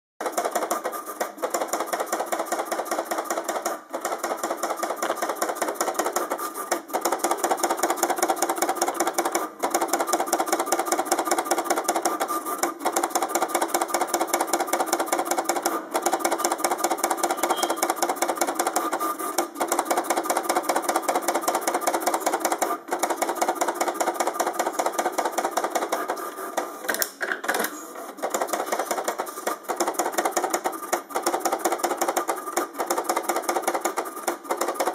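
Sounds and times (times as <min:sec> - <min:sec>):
pen plotter motors whirring: 0:00.2 - 0:34.9.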